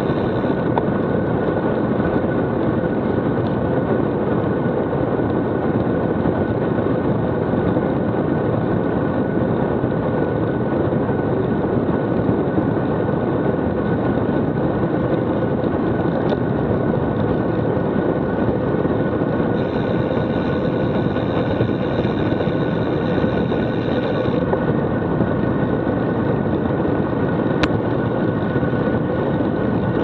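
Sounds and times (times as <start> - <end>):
wind rush on microphone: 0.0 - 30.0.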